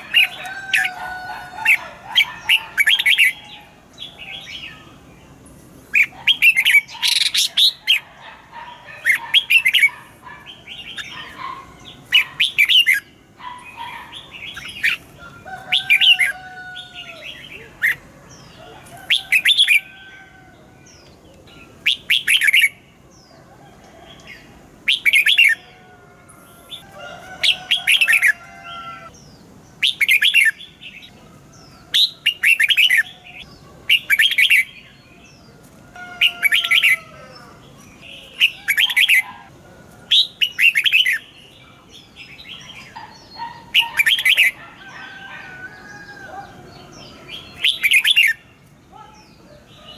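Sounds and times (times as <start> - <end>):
bulbul warbled song: 0.0 - 20.2, 20.9 - 23.0, 24.2 - 25.9, 26.6 - 49.9.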